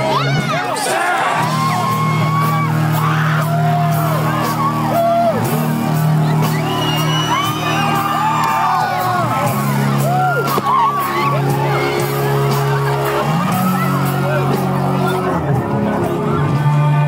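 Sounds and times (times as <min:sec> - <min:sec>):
crowd shouting and whooping: 0:00.0 - 0:17.0
live rock band playing: 0:01.4 - 0:17.0.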